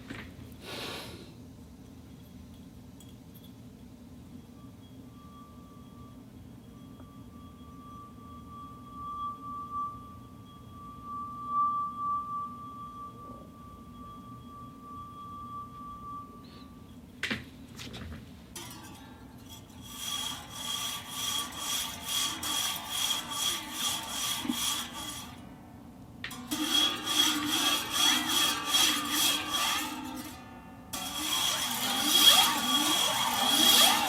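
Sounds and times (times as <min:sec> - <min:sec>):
steady high ringing tones: 0:01.9 - 0:34.0
rhythmic scraping strokes: 0:04.4 - 0:34.0.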